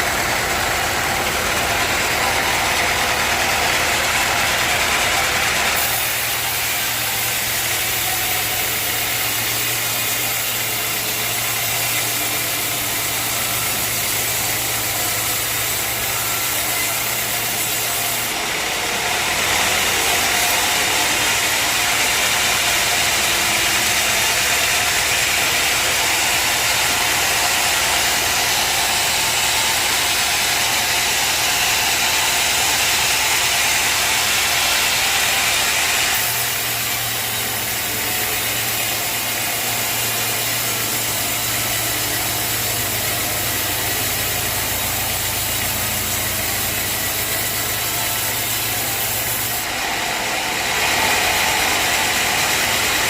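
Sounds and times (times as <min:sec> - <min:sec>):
loud sawmill hiss: 0:00.0 - 0:53.0.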